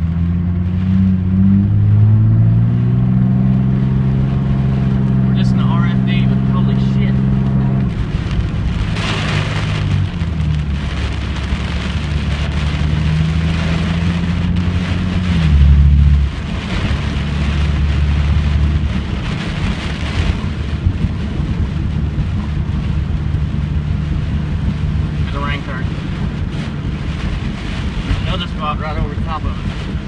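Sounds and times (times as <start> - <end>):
low rumble: 0.0 - 30.0
wind-driven rain pelting a vehicle: 0.0 - 30.0.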